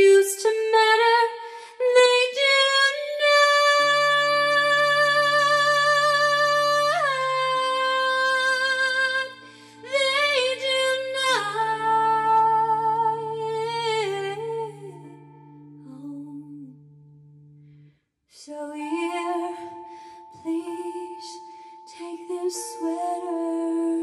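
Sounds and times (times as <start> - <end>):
woman singing: 0.0 - 16.9, 18.4 - 24.0.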